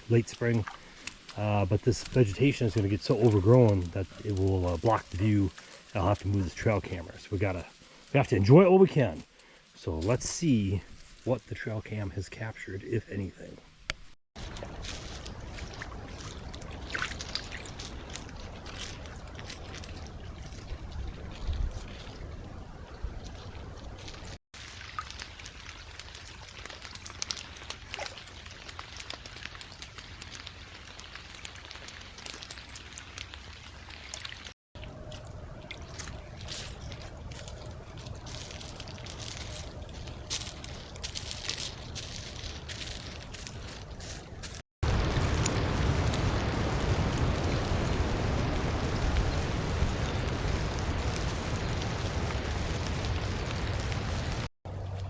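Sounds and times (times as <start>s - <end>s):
small water ticks: 0.0s - 8.2s, 13.9s - 44.6s, 49.2s - 55.0s
stream trickling and splashing: 0.0s - 13.0s, 14.4s - 55.0s.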